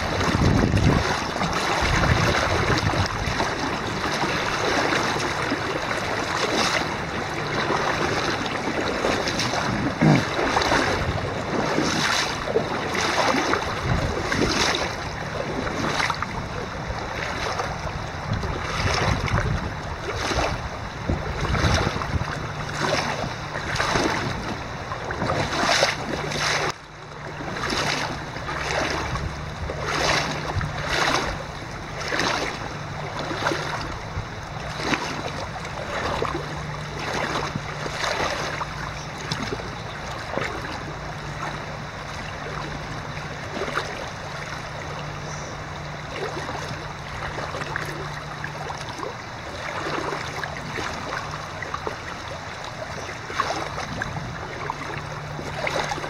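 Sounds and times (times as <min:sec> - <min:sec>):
river water rushing over stones: 0:00.0 - 0:56.0.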